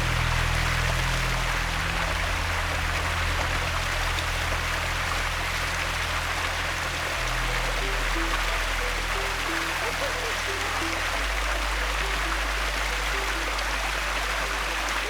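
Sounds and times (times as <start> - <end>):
water rushing from waterfall: 0.0 - 15.0.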